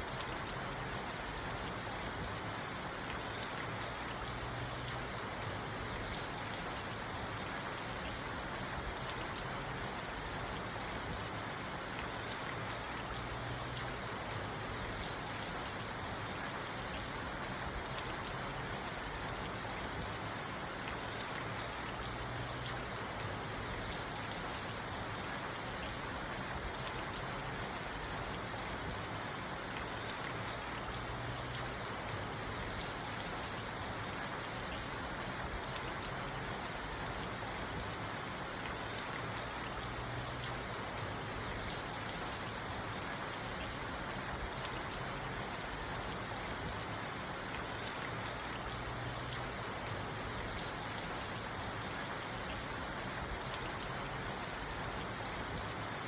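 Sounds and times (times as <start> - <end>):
rain on a car: 0.0 - 56.0.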